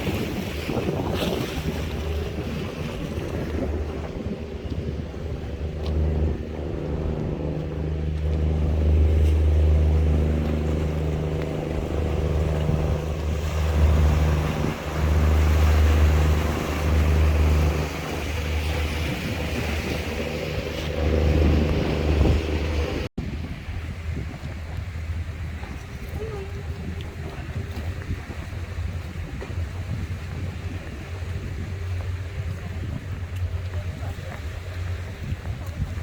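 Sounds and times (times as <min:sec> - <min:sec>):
boat engine droning: 0:00.0 - 0:36.0
faint wind: 0:00.0 - 0:36.0
water: 0:00.0 - 0:36.0.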